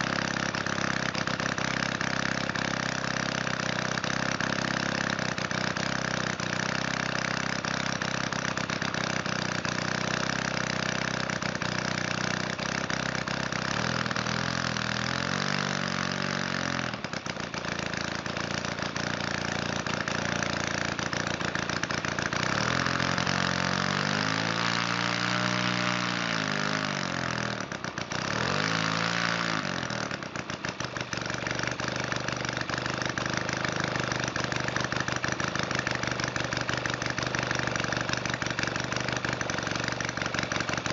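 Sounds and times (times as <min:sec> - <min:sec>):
model aircraft engine running: 0:00.0 - 0:40.9.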